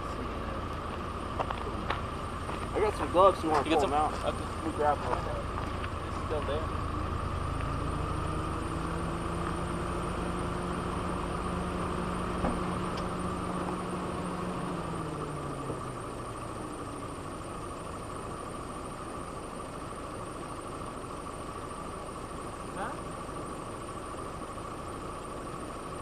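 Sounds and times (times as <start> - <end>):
vehicle engines humming: 0.0 - 26.0.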